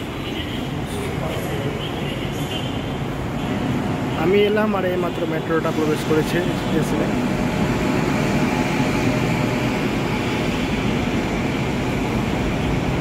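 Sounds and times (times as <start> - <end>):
metro train running: 0.0 - 13.0.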